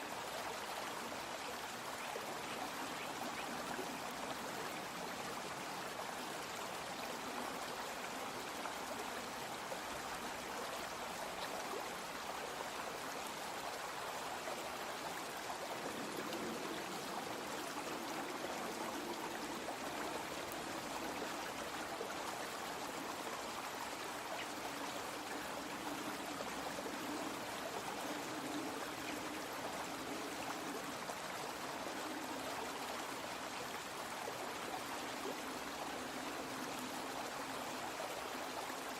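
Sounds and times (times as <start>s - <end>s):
brook flowing: 0.0s - 38.9s.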